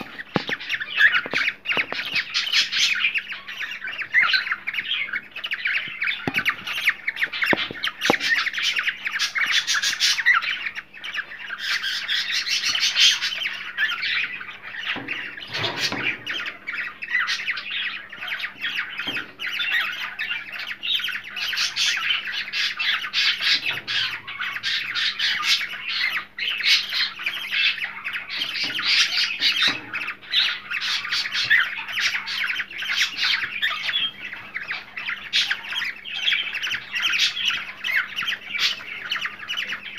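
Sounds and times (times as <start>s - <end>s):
cockatiels chattering and squawking: 0.0s - 39.9s.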